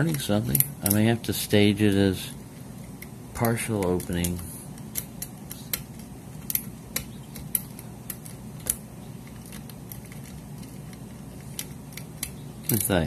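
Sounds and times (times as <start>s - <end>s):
lock pick clicking on pins: 0.0s - 1.2s, 2.8s - 13.0s
faint low hum: 0.0s - 13.0s.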